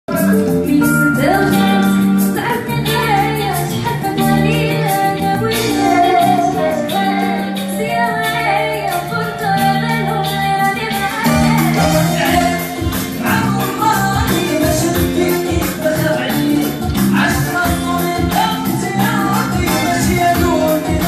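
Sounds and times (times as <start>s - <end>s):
high voice singing: 0.1s - 21.0s
instrumental accompaniment with bass: 0.1s - 21.0s.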